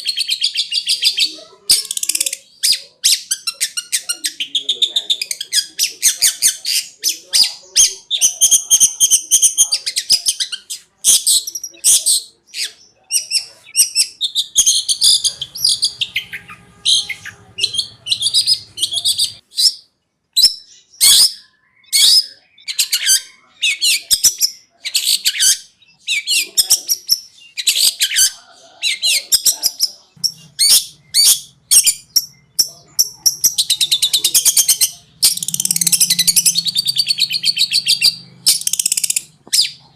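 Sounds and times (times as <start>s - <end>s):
shrike singing rapid chattering: 0.0s - 19.8s, 20.4s - 39.9s.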